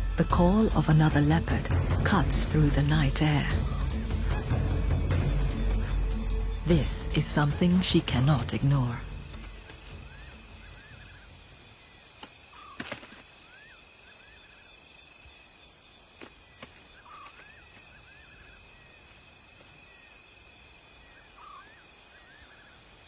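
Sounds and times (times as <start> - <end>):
insects chirping in pulses: 0.0 - 23.0
steady high insect trill: 2.9 - 23.0.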